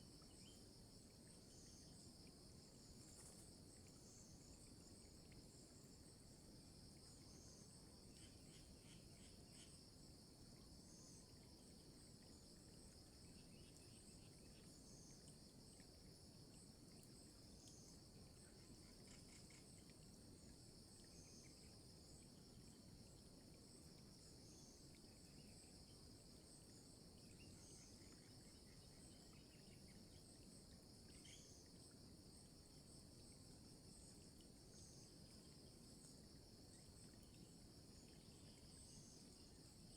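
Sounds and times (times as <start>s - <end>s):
high cricket chirp: 0.0s - 39.9s
insects droning: 0.0s - 39.9s.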